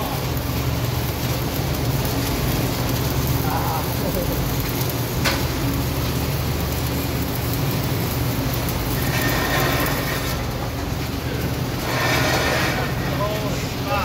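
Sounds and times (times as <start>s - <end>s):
welding arc crackling: 0.0s - 14.0s.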